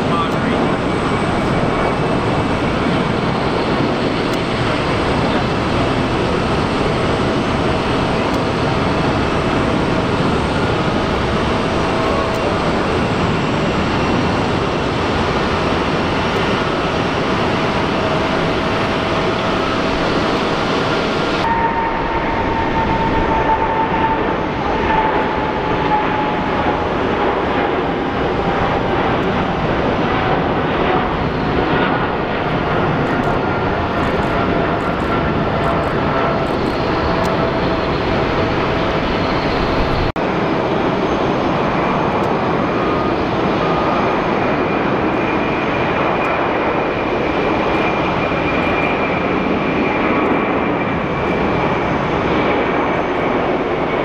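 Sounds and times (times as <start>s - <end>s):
jet engine rush and whine: 0.0s - 54.0s.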